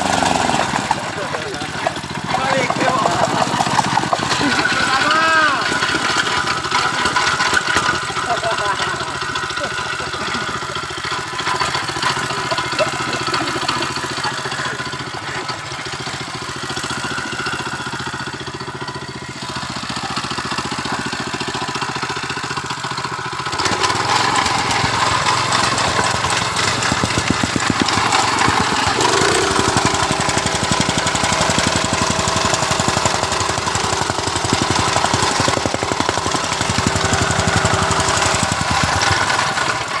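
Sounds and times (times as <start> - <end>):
soil compactor engine pounding: 0.0 - 40.0.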